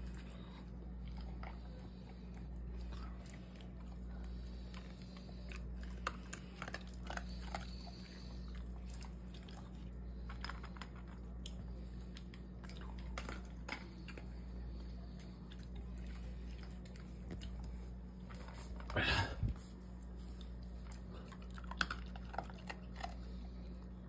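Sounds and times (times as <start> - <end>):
dog crunching dry kibble: 0.0 - 19.0, 20.3 - 24.0.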